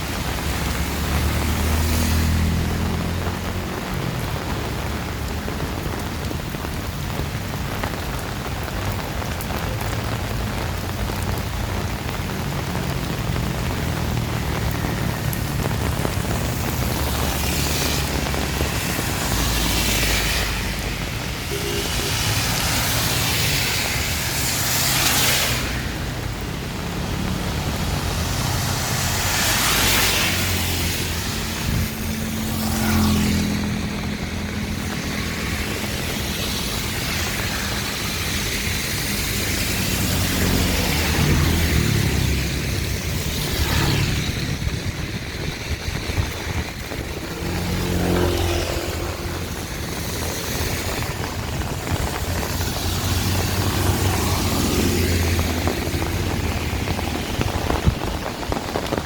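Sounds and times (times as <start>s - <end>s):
heavy rain: 0.0s - 59.0s
low rumble of engines: 0.0s - 59.0s
tyres hissing on wet road: 0.0s - 59.0s.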